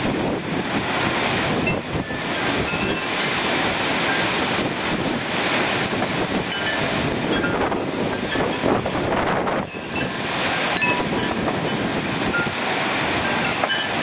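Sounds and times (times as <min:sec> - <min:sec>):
storm wind gusting: 0:00.0 - 0:13.4
wind buffeting microphone: 0:00.0 - 0:14.0.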